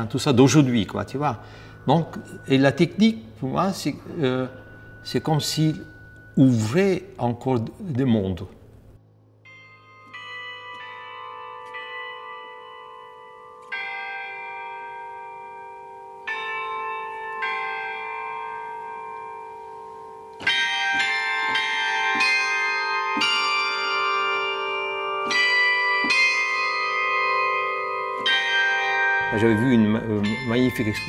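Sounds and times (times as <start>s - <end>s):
carillon bells ringing: 0.0s - 8.2s, 9.4s - 31.0s
low bell humming: 0.0s - 31.0s.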